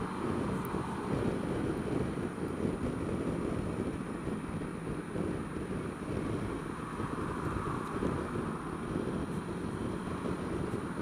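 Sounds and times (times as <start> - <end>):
scooter engine running: 0.0 - 11.0
wind rushing over microphone: 0.0 - 11.0.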